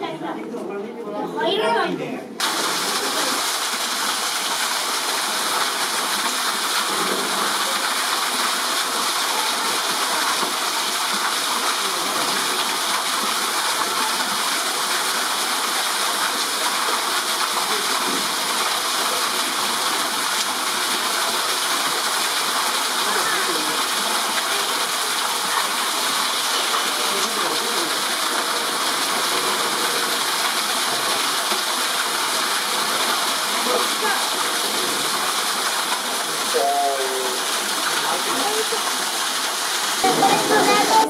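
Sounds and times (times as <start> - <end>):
waterfall rushing: 2.4 - 41.0.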